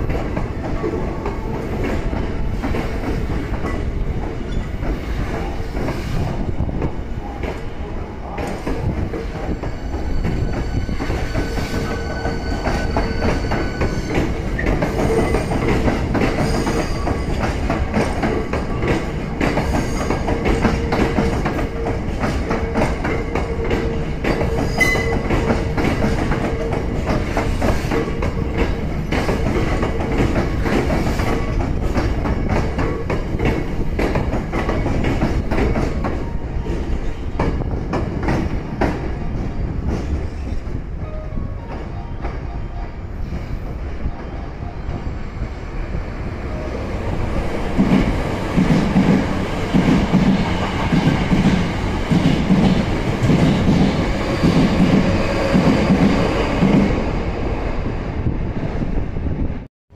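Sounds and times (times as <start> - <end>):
train running rumble: 0.0 - 59.7.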